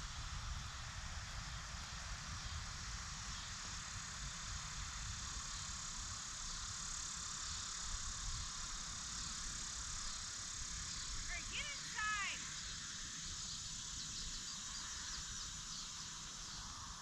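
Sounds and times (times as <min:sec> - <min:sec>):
high outdoor hiss: 0:00.0 - 0:17.0.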